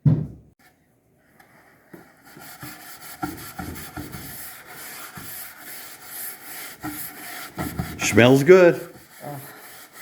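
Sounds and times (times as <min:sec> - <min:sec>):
hand rubbing wax into wood: 0:01.5 - 0:10.0.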